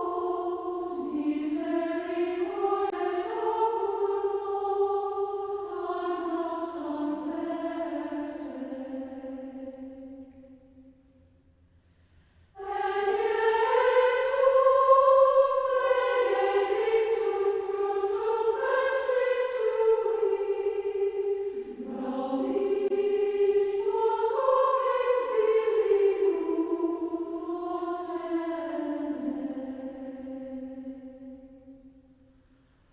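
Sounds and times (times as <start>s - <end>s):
choir singing a hymn: 0.0s - 11.0s, 12.6s - 32.5s.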